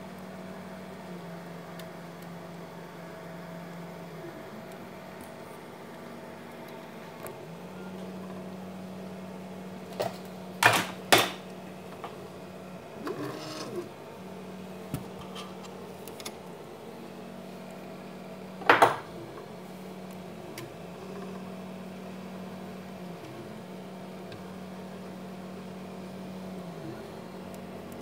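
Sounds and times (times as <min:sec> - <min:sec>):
fan whirring: 0:01.5 - 0:28.0.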